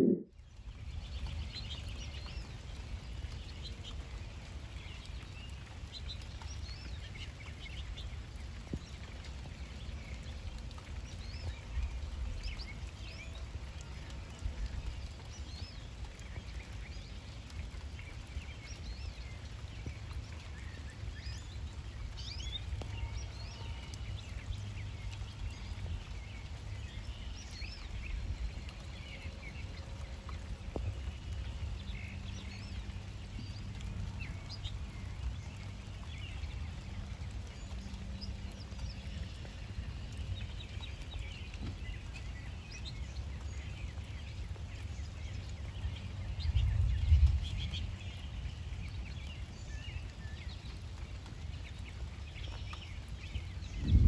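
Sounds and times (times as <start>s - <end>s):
rain: 0.0s - 54.0s
songbirds chirping and singing: 0.0s - 54.0s.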